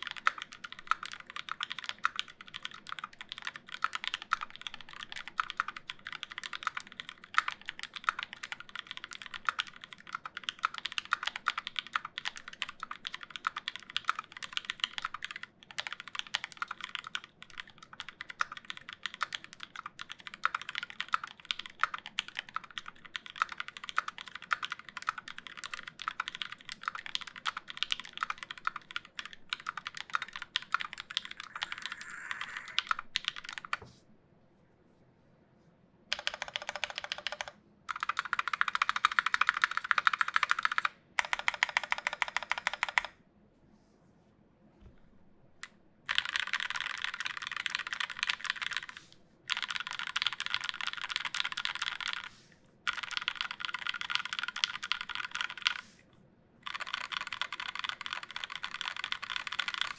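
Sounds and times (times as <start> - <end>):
fast mechanical keyboard typing: 0.0 - 33.8, 36.1 - 43.2, 46.1 - 52.3, 52.9 - 55.9, 56.6 - 59.9.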